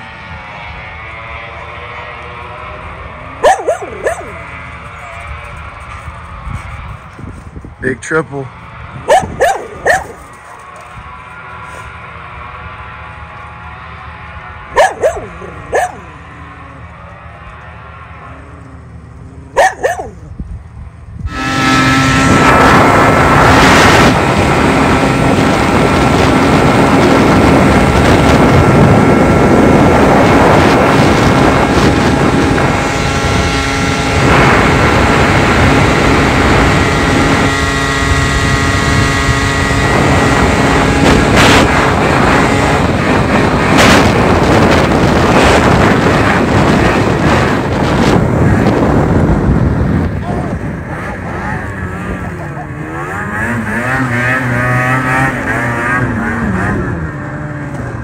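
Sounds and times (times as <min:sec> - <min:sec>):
wind rushing over microphone: 0:00.0 - 0:13.1, 0:19.0 - 0:58.0
snowmobile engine running: 0:00.0 - 0:58.0.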